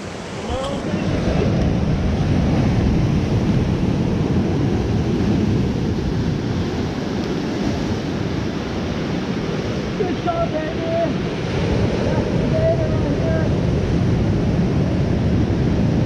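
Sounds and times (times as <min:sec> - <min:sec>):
ocean surf washing ashore: 0:00.0 - 0:16.0
wind buffeting microphone: 0:00.0 - 0:16.0.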